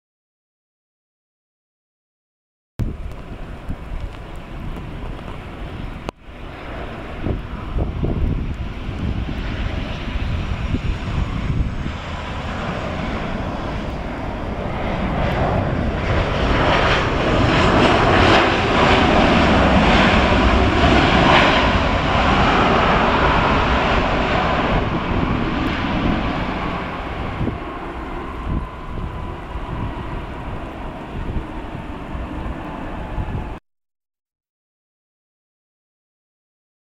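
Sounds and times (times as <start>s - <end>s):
jet engines landing: 2.8s - 33.6s.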